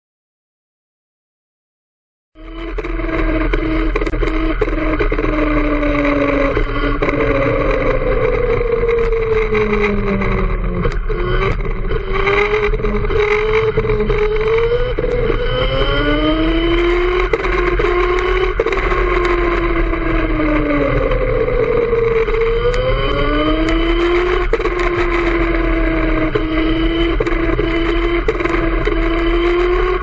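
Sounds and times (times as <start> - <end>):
go-kart engine: 2.4 - 30.0.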